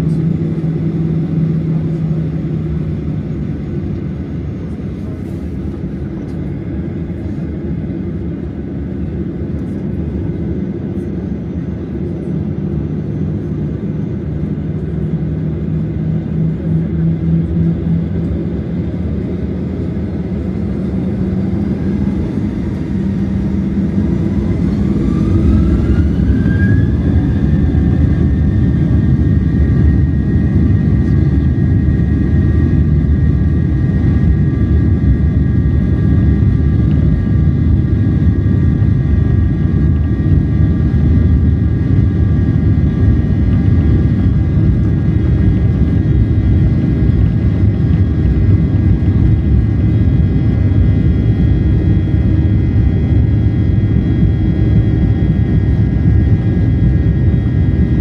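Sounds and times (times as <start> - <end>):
jet engine rumble: 0.0 - 58.0
jet engine whine: 0.0 - 58.0.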